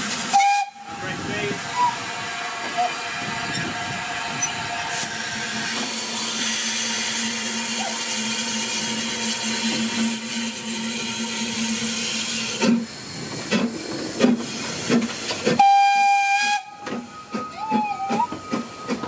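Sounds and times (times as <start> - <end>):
steam hissing from locomotive: 0.0 - 19.0.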